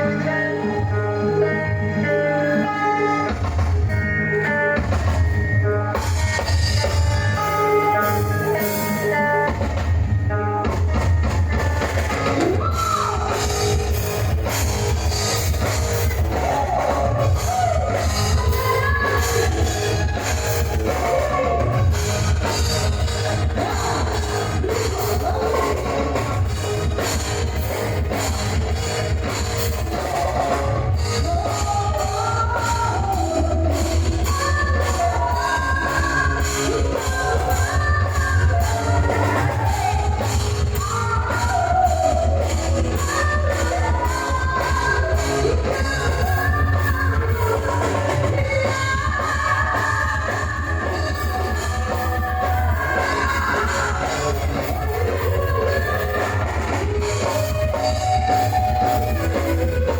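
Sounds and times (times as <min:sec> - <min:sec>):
band music: 0:00.0 - 0:59.9
drum kit: 0:00.0 - 0:59.9
heavy bass: 0:09.0 - 0:59.9.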